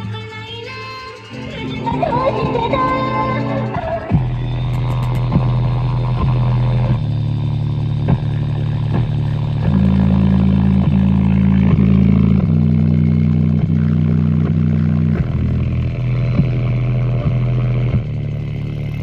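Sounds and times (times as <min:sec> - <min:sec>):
speaker playing deep bass: 0:00.0 - 0:19.0.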